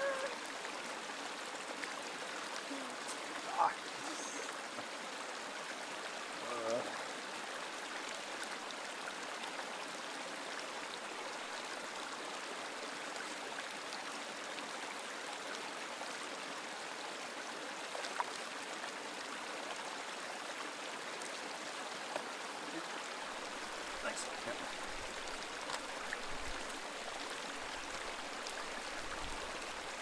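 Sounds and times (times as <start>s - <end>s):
flowing water rushing: 0.0s - 30.0s.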